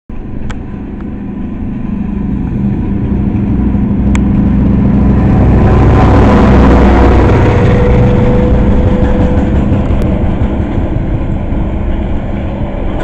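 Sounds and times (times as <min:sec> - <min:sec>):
diesel locomotive engine: 0:00.1 - 0:13.0.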